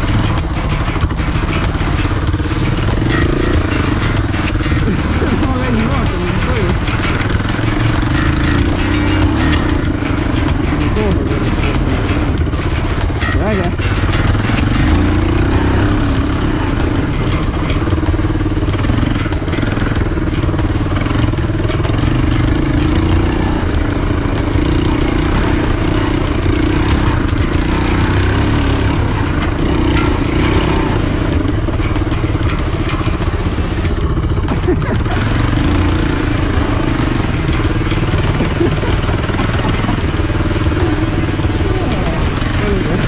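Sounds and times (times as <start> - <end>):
motorcycle engine under load: 0.0 - 43.0.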